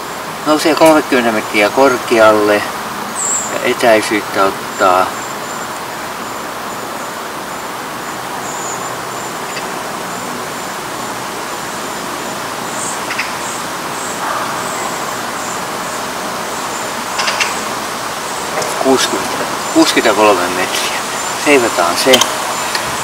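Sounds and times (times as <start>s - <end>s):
distant road traffic: 0.0s - 23.0s.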